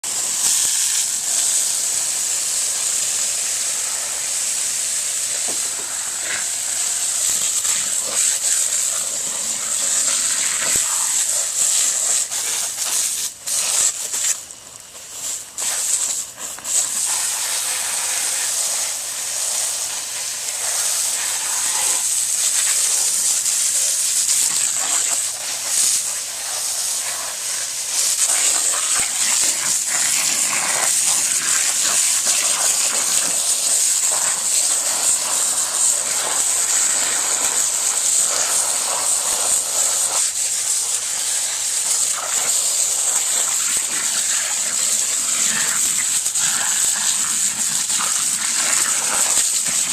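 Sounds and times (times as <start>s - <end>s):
embers hissing: 0.0s - 49.9s
water gushing: 0.0s - 49.9s.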